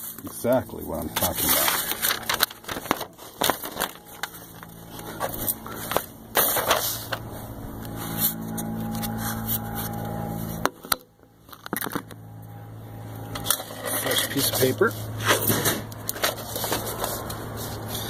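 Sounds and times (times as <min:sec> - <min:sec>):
paper rustling and scraping: 0:00.0 - 0:10.7, 0:13.4 - 0:18.0
low steady hum: 0:00.0 - 0:18.0.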